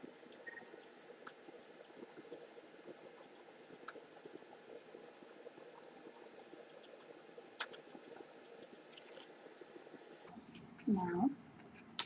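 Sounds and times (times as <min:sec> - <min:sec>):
small clicks: 0:00.2 - 0:10.9.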